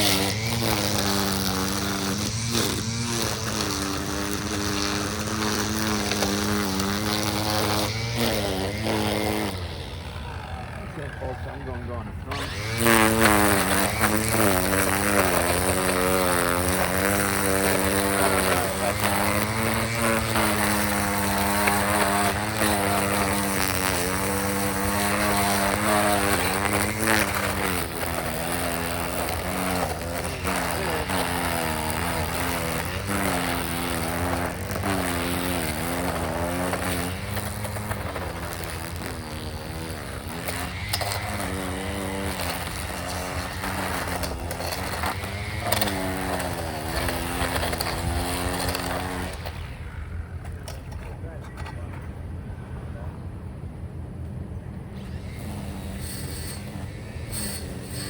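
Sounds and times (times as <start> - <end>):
trimmer motor whining: 0.0 - 51.8, 54.7 - 58.0.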